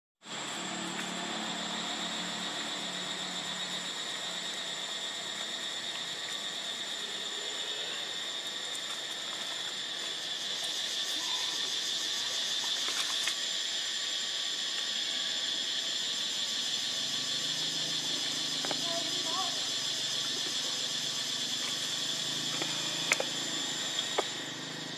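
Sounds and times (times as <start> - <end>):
high-pitched insect chorus: 0.2 - 24.9.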